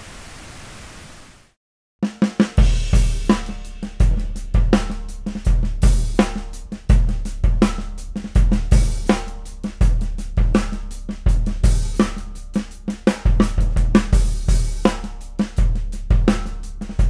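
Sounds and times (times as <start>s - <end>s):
drum kit playing a steady beat: 2.0s - 17.0s.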